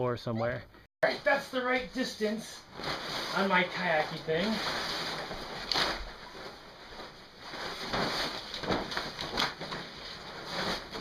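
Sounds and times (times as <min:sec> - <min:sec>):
sail cloth rustling over a tarp: 0:01.3 - 0:11.0.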